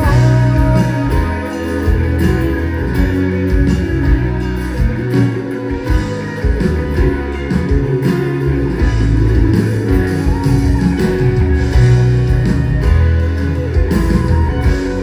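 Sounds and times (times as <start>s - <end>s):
electric guitar: 0.0s - 15.0s
live pop band playing: 0.0s - 15.0s.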